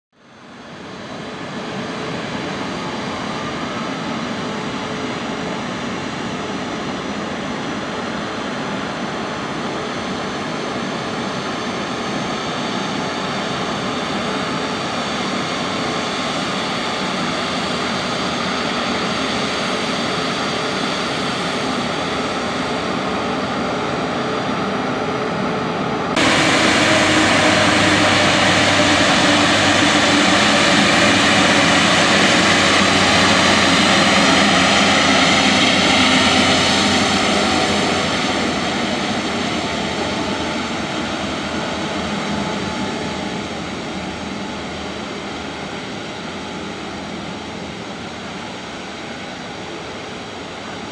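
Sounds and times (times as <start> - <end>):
jet engines running: 0.4 - 50.9.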